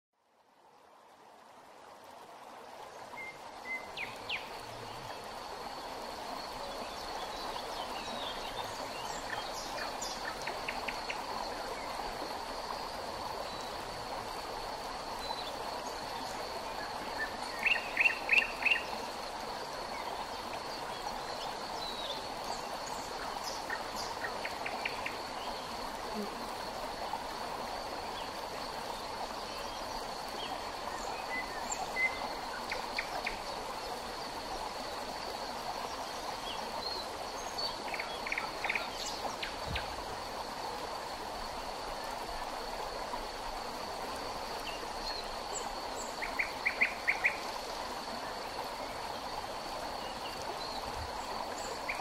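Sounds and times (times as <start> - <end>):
river flowing: 0.2 - 52.0.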